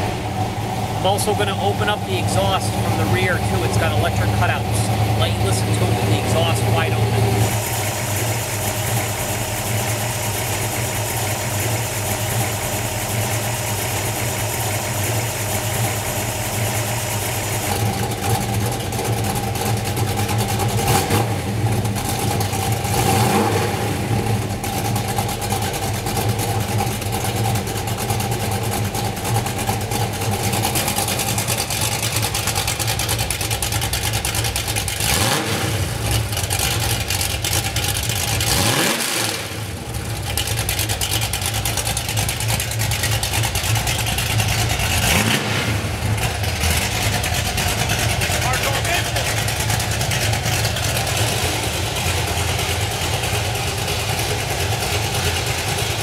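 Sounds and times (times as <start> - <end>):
car engine idling: 0.0 - 56.0
engine throttle revs: 0.0 - 56.0.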